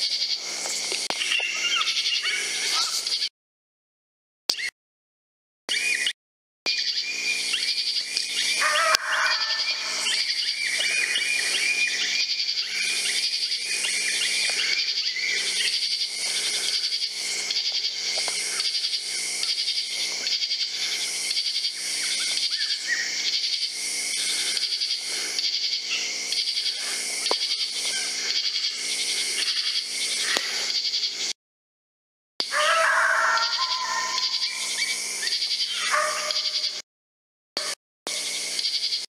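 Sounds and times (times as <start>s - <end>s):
insects trilling: 0.0s - 3.3s, 6.7s - 31.4s, 32.4s - 36.8s, 37.6s - 39.0s.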